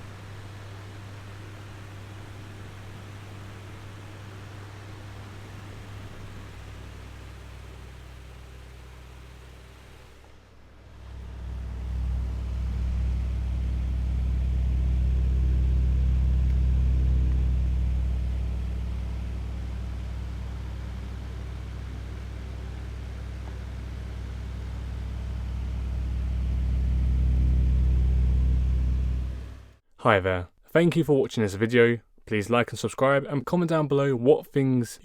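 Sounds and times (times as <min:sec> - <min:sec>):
electric fan humming: 0:00.0 - 0:29.8.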